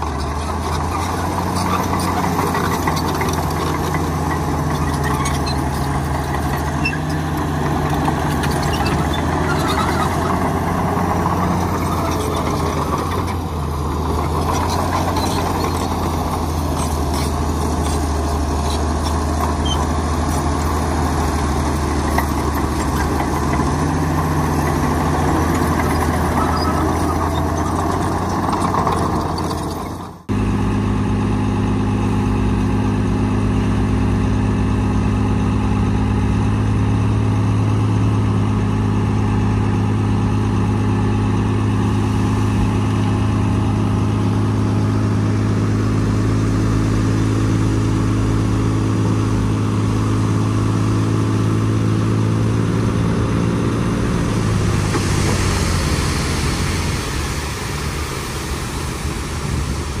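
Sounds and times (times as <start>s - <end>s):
diesel engine running steadily: 0.0s - 60.0s.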